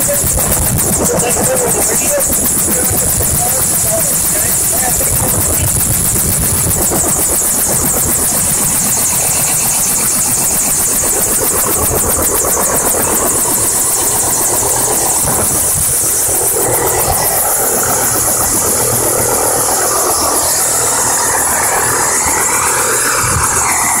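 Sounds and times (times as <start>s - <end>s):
helicopter rotor blades beating: 0.0s - 24.0s
helicopter turbine whine: 0.0s - 24.0s.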